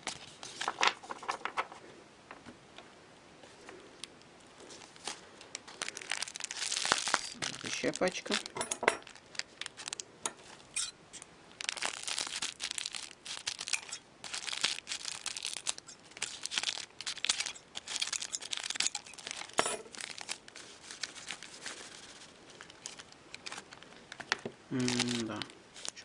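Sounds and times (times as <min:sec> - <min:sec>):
wrapper crinkling: 0:00.0 - 0:01.9, 0:04.6 - 0:10.8, 0:11.5 - 0:26.0.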